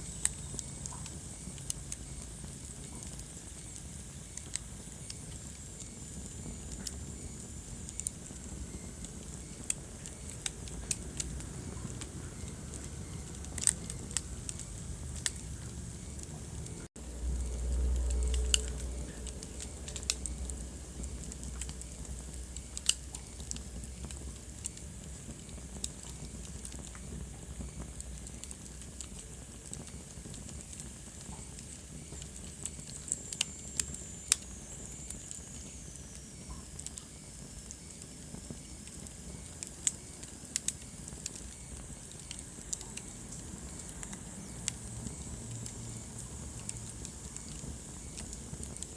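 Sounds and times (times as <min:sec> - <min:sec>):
low rumble of flame: 0:00.0 - 0:48.9
wood fire crackling: 0:00.0 - 0:48.9
sharp pops and snaps: 0:00.1 - 0:48.9.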